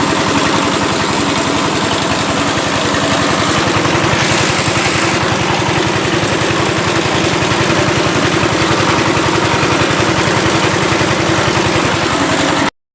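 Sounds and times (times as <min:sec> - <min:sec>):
power tiller engine running: 0:00.0 - 0:12.7.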